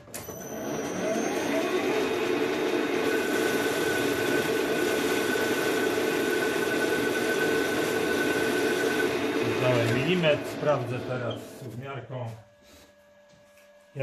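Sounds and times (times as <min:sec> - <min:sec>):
metal lathe drone: 0:00.3 - 0:11.8.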